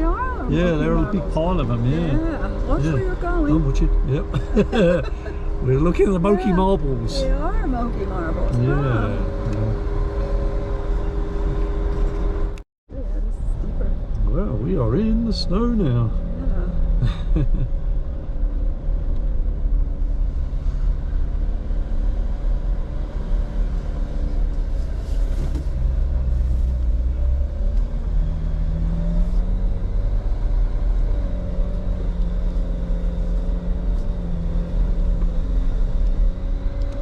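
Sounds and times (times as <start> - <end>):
car engine low rumble: 0.0 - 37.0.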